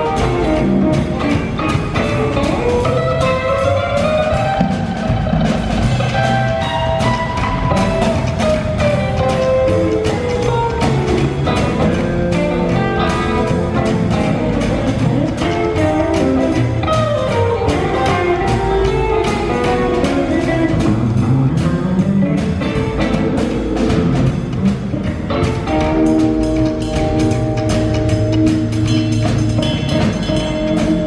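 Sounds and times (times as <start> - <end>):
band playing rock and roll: 0.0 - 31.0.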